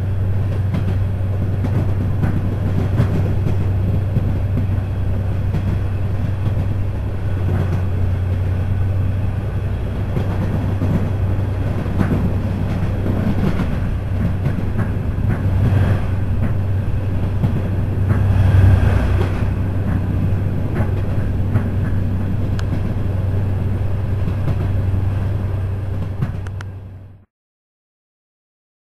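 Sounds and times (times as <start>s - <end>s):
passing train: 0.0s - 27.3s
train hum and rail rumble: 0.0s - 27.3s.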